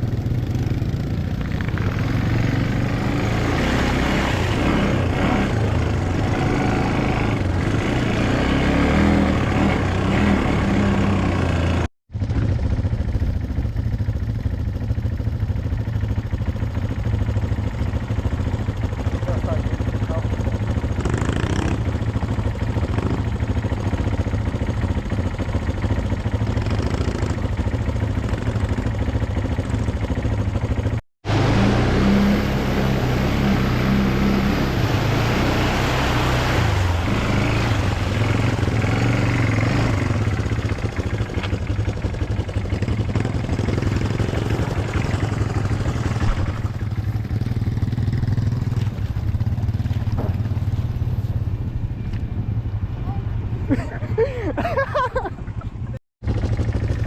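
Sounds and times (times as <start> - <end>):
atv engines running: 0.0 - 57.0.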